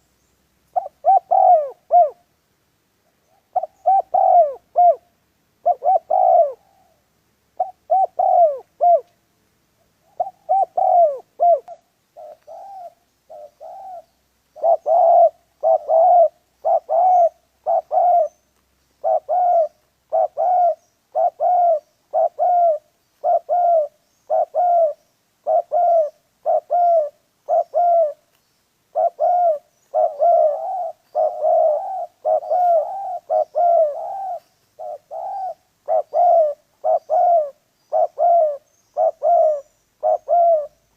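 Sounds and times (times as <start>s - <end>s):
dove cooing: 0.7s - 2.3s, 3.3s - 7.0s, 7.6s - 9.2s, 10.0s - 18.4s, 19.0s - 28.2s, 28.9s - 40.9s.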